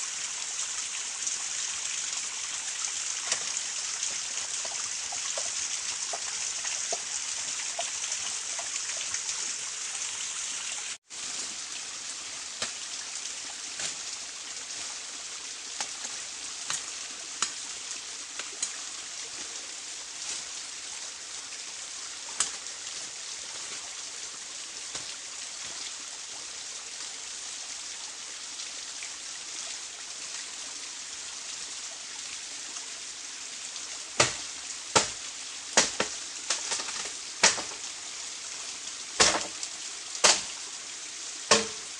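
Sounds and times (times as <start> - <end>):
small stream running: 0.0 - 41.9.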